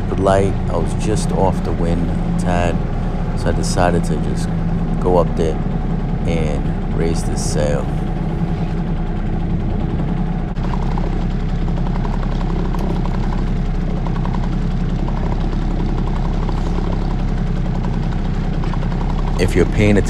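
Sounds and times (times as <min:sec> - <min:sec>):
outboard motor idling: 0:00.0 - 0:20.0.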